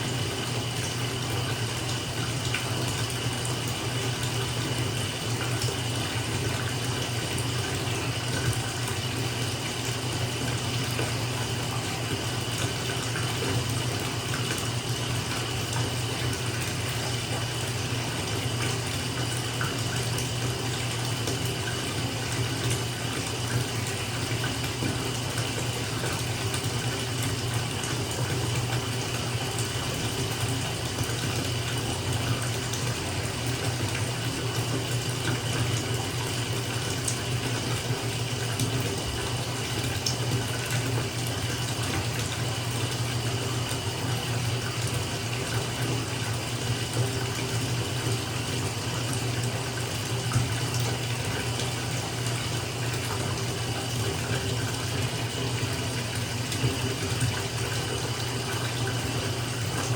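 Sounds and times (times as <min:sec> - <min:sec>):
tap water filling bathtub: 0:00.0 - 0:59.9.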